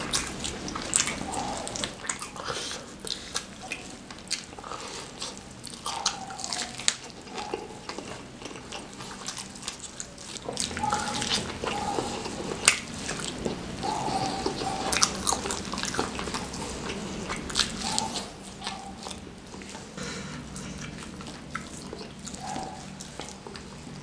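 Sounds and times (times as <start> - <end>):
wet sticky chewing: 0.0 - 24.0.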